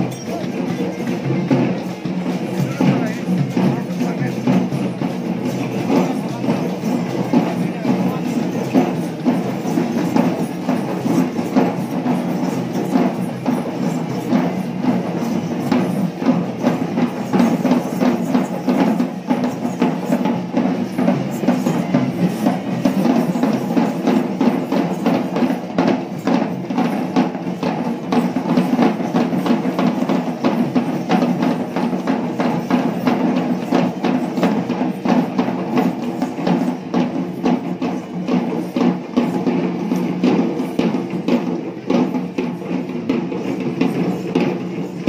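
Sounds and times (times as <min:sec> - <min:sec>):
drums beating fast rhythm: 0:00.0 - 0:45.0.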